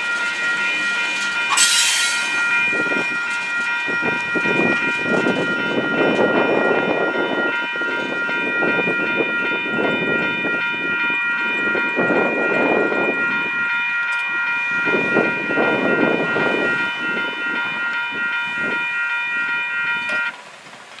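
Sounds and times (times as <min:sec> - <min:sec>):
railroad crossing bells ringing: 0:00.0 - 0:21.0.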